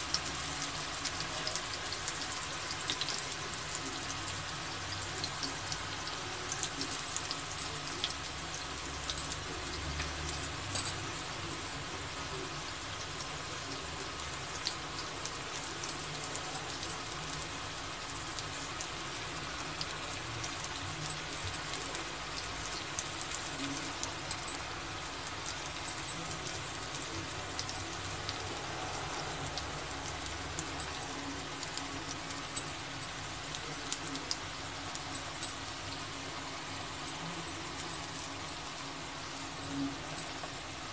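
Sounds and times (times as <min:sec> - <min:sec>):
slices sizzling in oil: 0:00.0 - 0:40.9.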